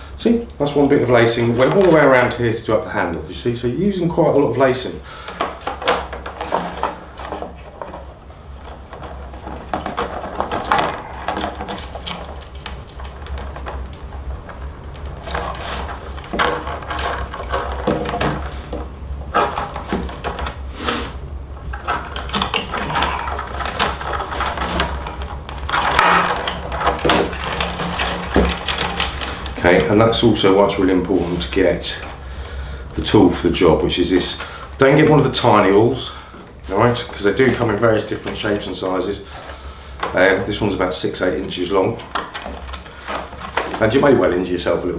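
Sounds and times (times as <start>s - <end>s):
lacing scraping and rustling: 4.5s - 44.9s.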